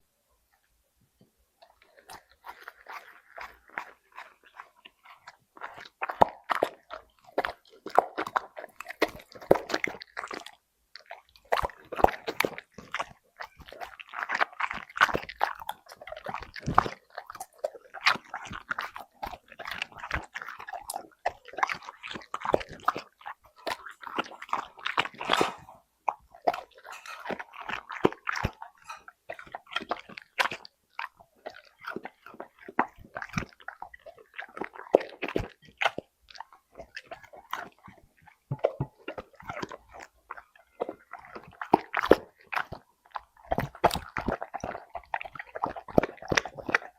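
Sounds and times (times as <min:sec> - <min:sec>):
dog crunching treats: 0:01.6 - 0:46.9.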